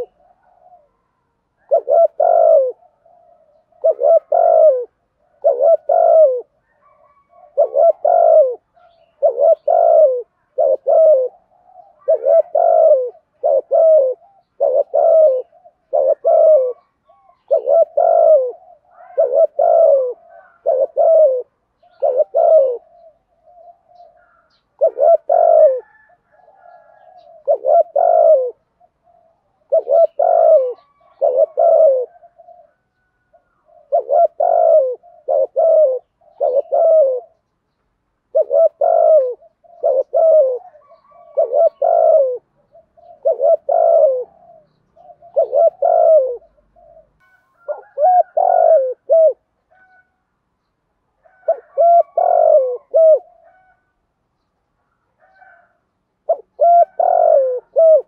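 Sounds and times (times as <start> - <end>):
dove cooing: 0.0 - 37.5, 38.2 - 50.2, 51.2 - 54.5, 55.1 - 58.0.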